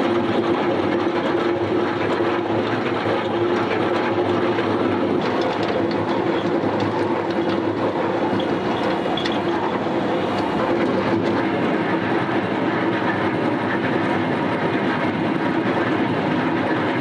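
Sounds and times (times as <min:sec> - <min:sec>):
diesel engine under load: 0:00.0 - 0:17.0
mechanical clatter: 0:00.0 - 0:17.0.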